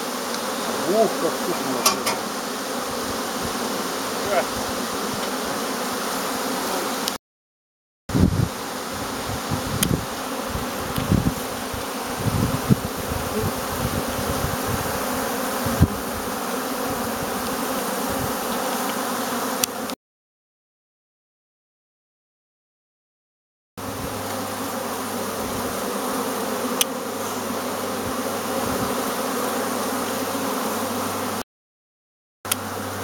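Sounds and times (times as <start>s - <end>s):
honeybees buzzing: 0.0s - 7.2s, 8.1s - 20.0s, 23.8s - 31.4s, 32.5s - 33.0s.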